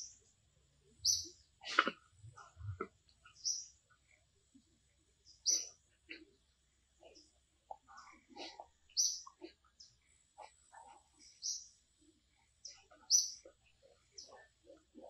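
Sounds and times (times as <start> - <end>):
bird chirping: 0.0 - 0.2, 0.9 - 4.2, 5.2 - 6.2, 7.0 - 15.0.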